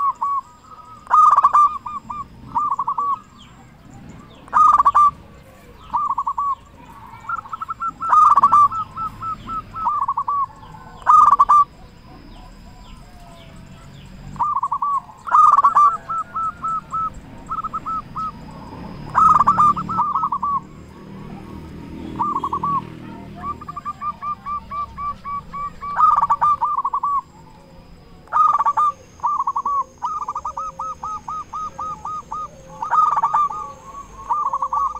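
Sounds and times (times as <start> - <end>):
doves cooing: 0.0 - 34.9.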